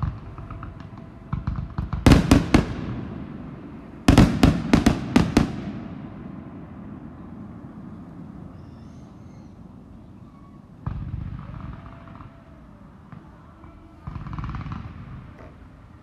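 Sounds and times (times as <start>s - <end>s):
fireworks booming and crackling: 0.0s - 16.0s.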